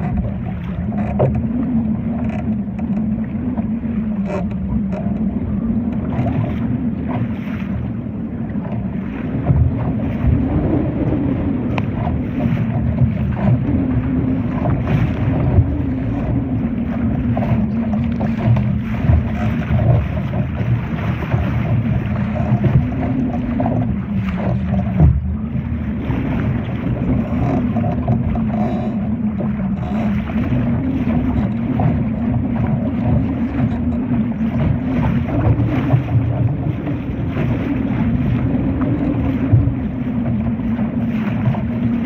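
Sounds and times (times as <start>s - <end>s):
water splashing against hull: 0.0s - 42.0s
wind buffeting microphone: 0.0s - 42.0s.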